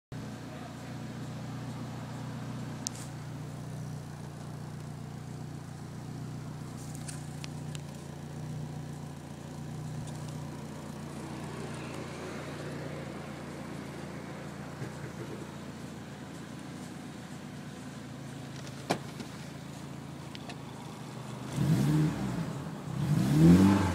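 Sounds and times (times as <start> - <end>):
car engine idling: 0.1 - 23.9.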